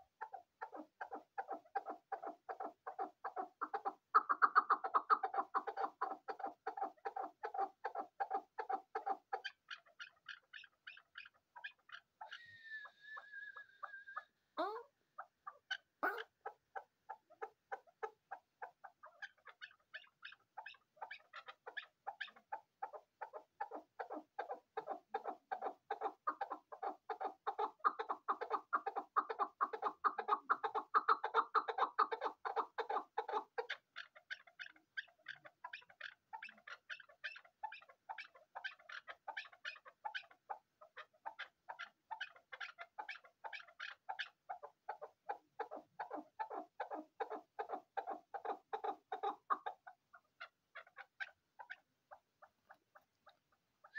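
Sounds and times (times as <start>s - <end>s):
partridge chuck calls: 0.0s - 53.9s.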